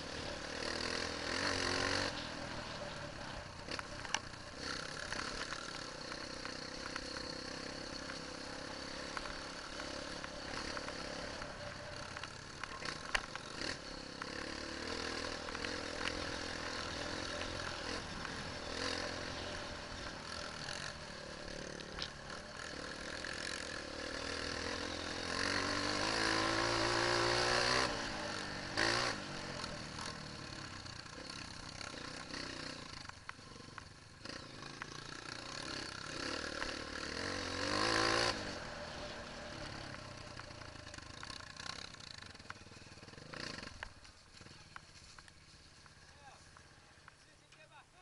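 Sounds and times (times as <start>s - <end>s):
dirt bike engine revving: 0.0s - 44.7s.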